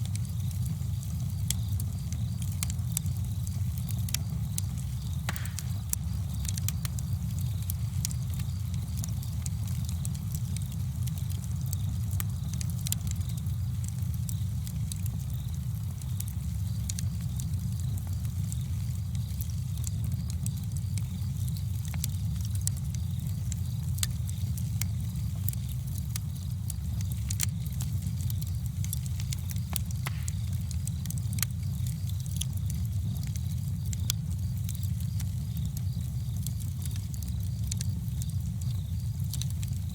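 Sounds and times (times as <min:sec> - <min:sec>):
campfire crackles and pops: 0:00.0 - 0:39.9
low fire rumble: 0:00.0 - 0:39.9.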